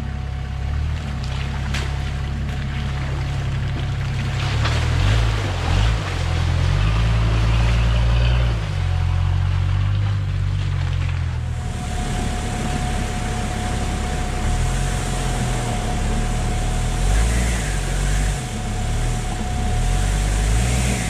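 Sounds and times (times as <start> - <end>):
diesel engine pulling hard: 0.0 - 21.0
water and mud splashing: 0.0 - 21.0.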